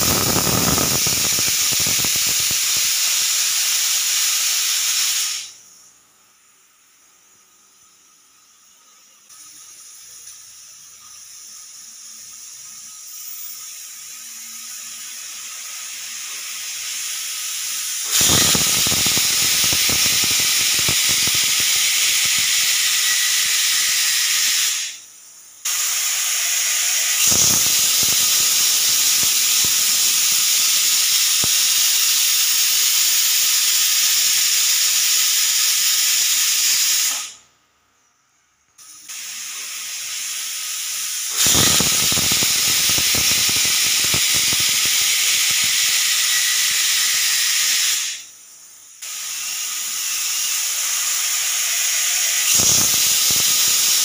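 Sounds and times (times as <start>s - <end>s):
pressure cooker whistle hissing: 0.0s - 38.2s, 38.8s - 54.0s.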